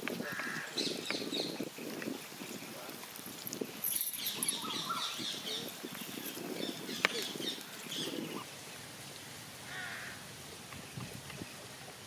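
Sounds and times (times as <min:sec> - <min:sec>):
birds calling: 0:00.1 - 0:11.8.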